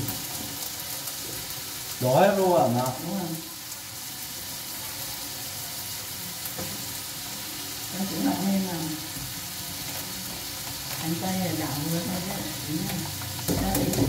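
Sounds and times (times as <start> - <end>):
beef and onions sizzling in pan: 0.0 - 14.0.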